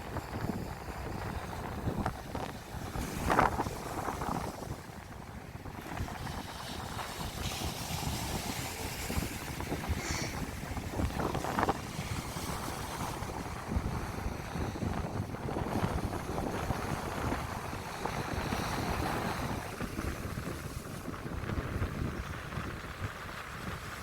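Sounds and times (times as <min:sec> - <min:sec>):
wind buffeting microphone: 0:00.0 - 0:24.0
surf washing onto beach: 0:00.1 - 0:24.0.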